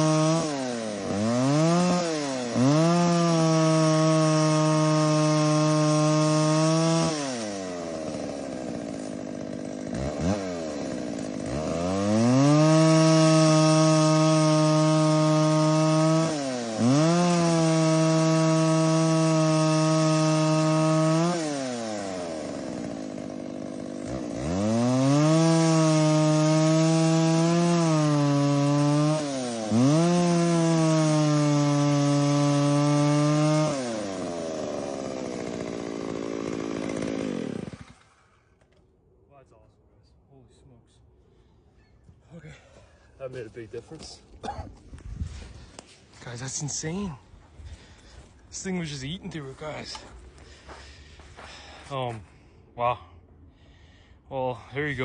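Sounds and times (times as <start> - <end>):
chainsaw revving and cutting wood: 0.0 - 38.8, 43.2 - 52.3.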